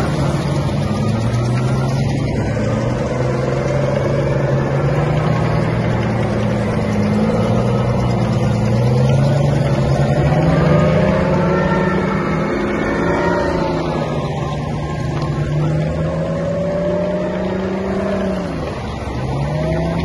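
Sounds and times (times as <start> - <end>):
tracked vehicle engine drone: 0.0 - 20.0.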